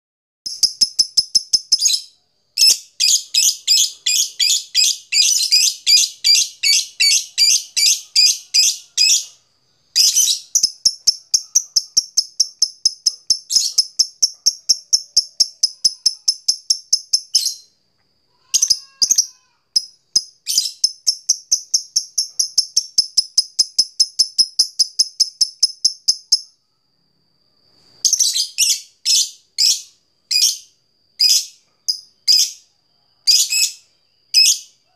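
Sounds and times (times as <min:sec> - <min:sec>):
lovebird high-pitched chirps: 0:00.5 - 0:17.8, 0:18.4 - 0:26.6, 0:28.0 - 0:34.8.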